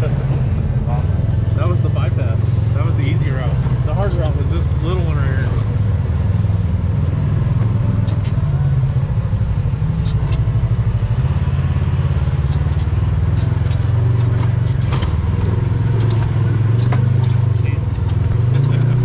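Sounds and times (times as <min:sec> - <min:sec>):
utility vehicle engine running: 0:00.0 - 0:19.0.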